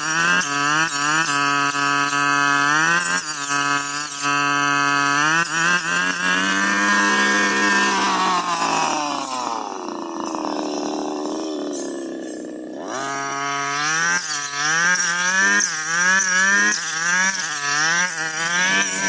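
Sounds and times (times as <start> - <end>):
brush cutter engine high revs: 0.0 - 19.0.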